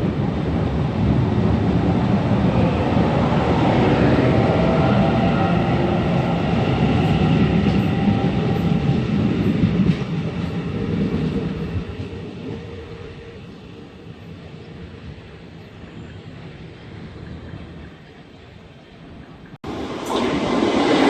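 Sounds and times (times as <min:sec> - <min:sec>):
train running on rails: 0:00.0 - 0:21.0.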